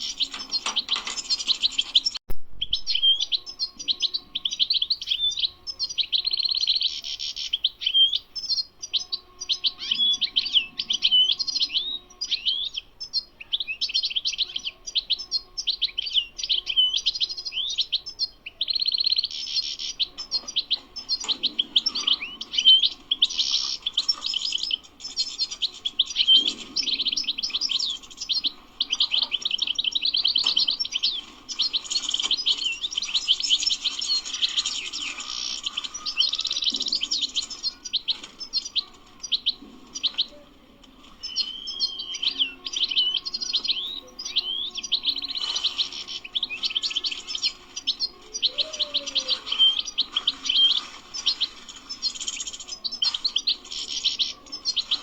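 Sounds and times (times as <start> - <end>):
goldfinch twittering song: 0.0 - 40.4, 41.0 - 55.0.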